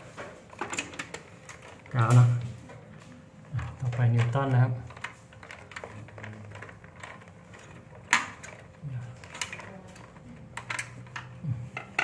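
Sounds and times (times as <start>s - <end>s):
clicks and knocks of handling parts: 0.0s - 12.0s.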